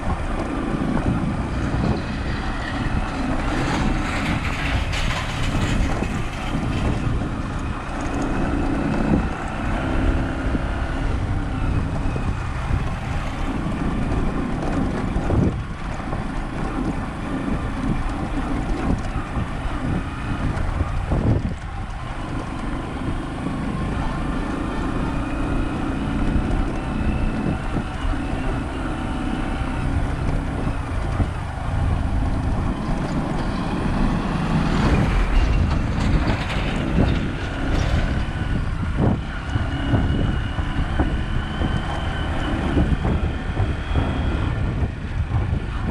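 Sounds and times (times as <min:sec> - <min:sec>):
tyre and road rumble: 0:00.0 - 0:45.9
wind on microphone: 0:00.0 - 0:45.9.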